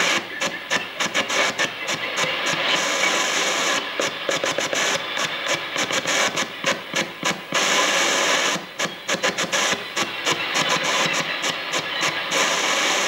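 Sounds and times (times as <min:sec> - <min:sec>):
pulsing shortwave radio static: 0:00.0 - 0:13.0.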